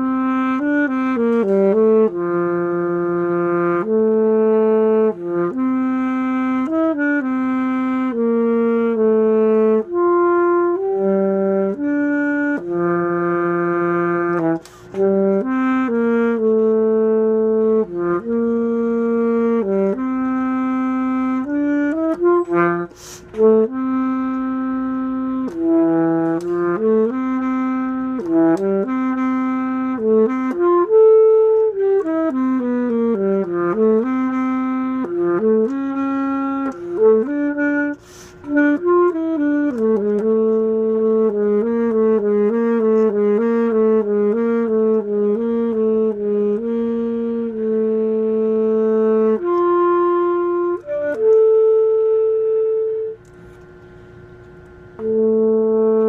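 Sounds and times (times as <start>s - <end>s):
saxophone melody: 0.0s - 56.0s.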